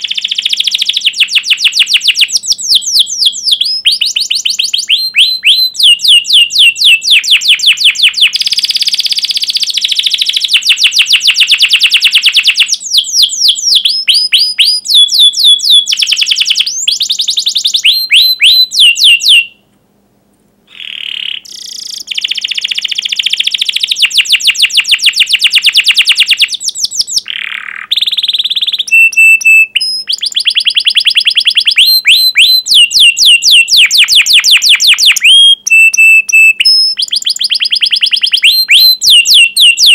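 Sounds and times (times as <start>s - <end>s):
canary singing chirps and trills: 0.0s - 19.7s, 20.7s - 39.9s.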